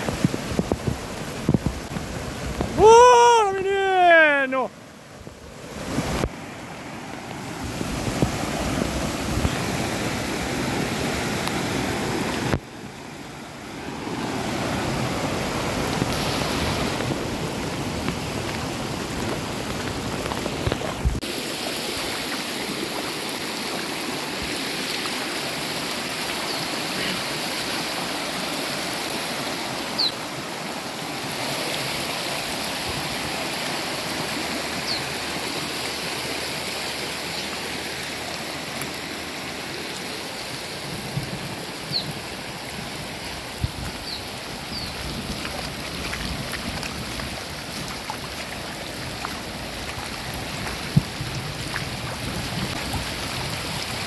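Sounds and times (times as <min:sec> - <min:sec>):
floodwater rushing: 0:00.0 - 0:54.0
rain falling: 0:00.0 - 0:54.0.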